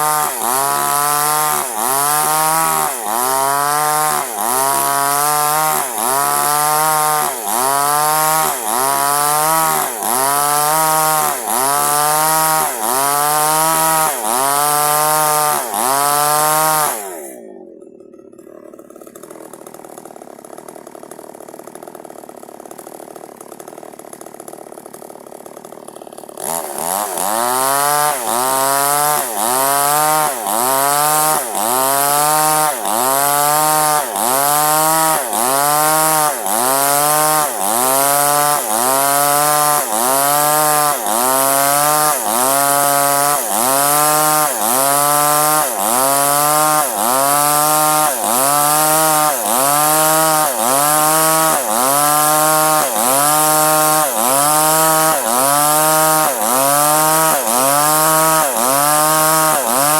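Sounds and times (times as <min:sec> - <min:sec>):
chainsaw cutting wood: 0:00.0 - 0:59.9
chainsaw idling: 0:00.0 - 0:59.9.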